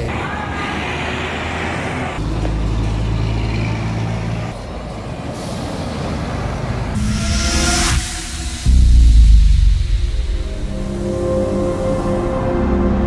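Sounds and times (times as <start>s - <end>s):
road and tyre noise: 0.0s - 13.0s
bus engine deep drone: 0.9s - 13.0s.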